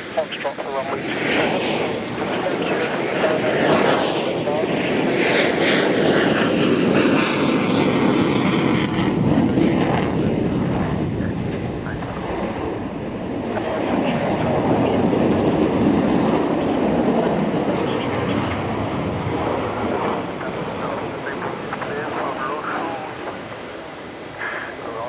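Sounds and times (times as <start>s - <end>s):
aircraft engine noise: 0.0s - 25.0s.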